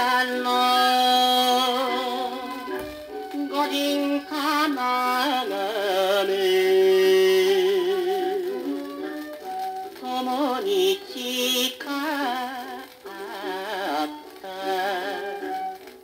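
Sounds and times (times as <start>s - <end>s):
instrumental song from vinyl record: 0.0s - 16.0s.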